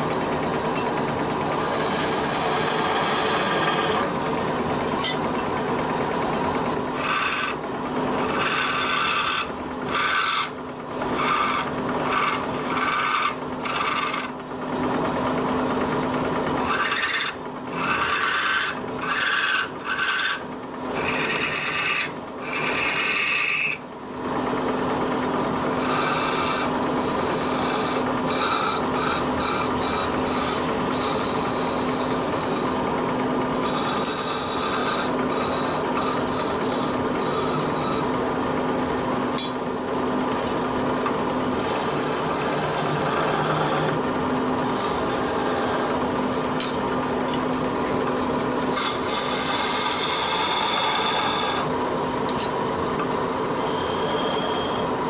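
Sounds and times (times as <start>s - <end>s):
chisel scraping spinning wood: 0.0s - 55.0s
lathe drive humming: 0.0s - 55.0s.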